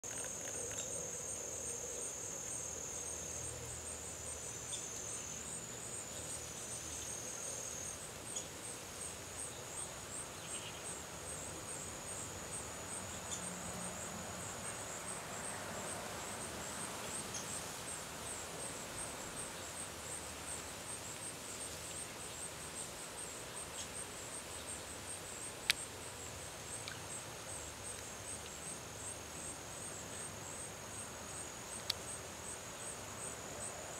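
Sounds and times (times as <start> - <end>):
high insect trill: 0.0 - 33.9
insects chirping: 0.0 - 33.9.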